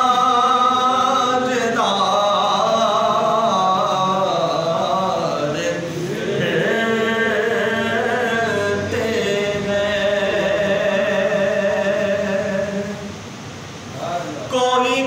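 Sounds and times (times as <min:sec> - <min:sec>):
man reciting melodically: 0:00.0 - 0:13.2, 0:13.9 - 0:15.0.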